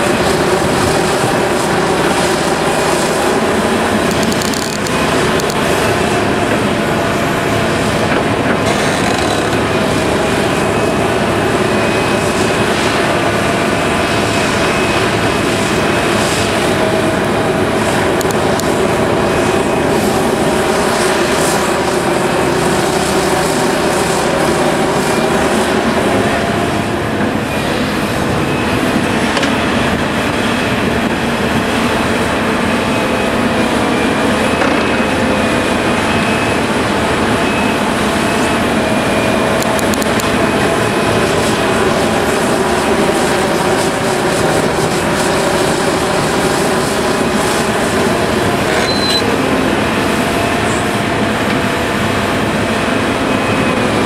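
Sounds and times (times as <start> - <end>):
diesel engines under load: 0.0 - 54.0
machinery whining: 0.0 - 54.0.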